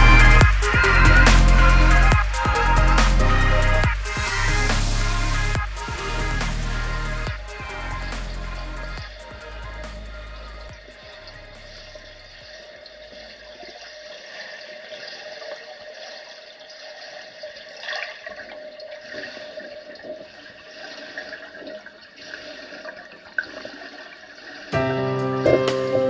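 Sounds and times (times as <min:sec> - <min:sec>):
water bubbling: 0:00.0 - 0:24.9
water rushing: 0:00.0 - 0:26.0.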